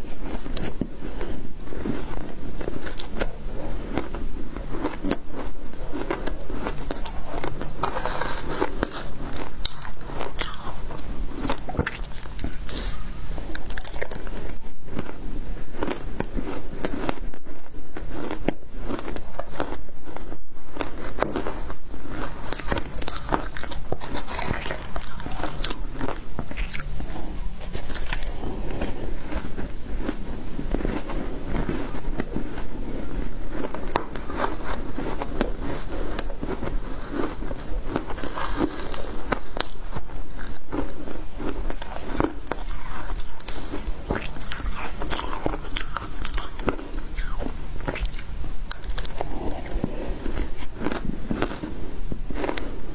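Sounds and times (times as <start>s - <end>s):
ice crunching while chewed: 0.0s - 52.9s.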